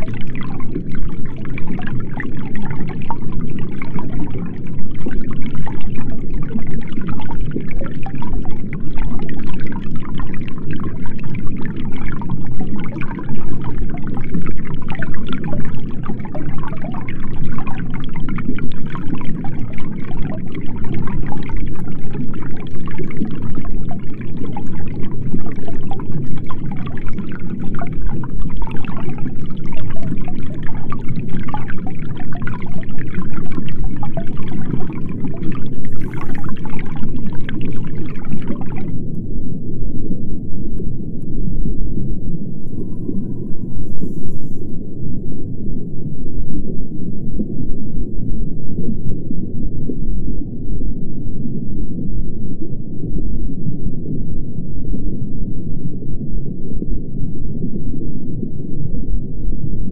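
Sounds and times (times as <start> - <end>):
fine underwater crackle: 0.0 - 59.9
muffled underwater rush of water: 0.0 - 59.9.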